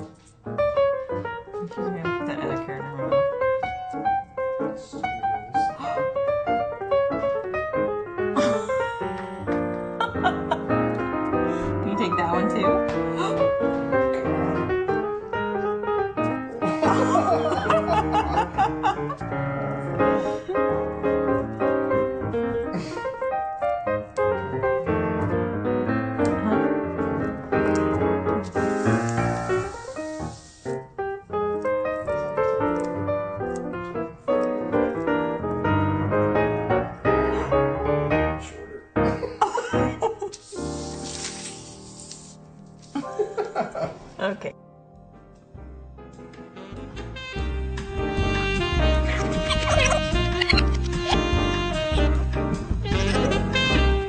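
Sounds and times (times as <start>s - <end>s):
lively piano music: 0.0s - 54.0s.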